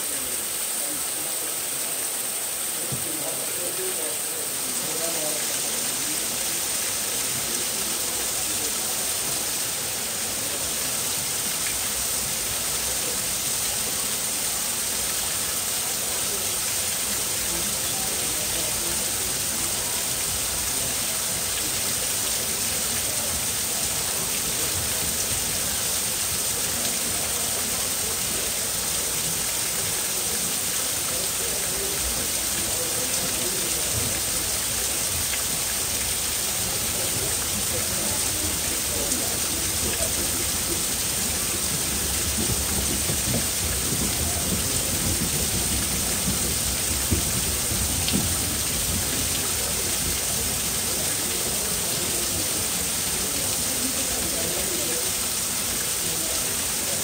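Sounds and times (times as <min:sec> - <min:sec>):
faint voices murmuring: 0:00.0 - 0:57.0
steady rushing hissing noise: 0:00.0 - 0:57.0.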